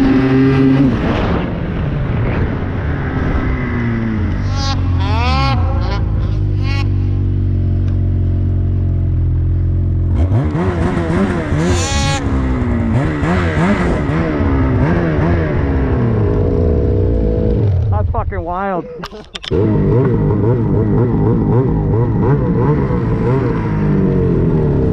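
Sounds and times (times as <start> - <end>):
snowmobile engine revving: 0.0 - 1.6, 2.3 - 7.8, 8.5 - 24.9.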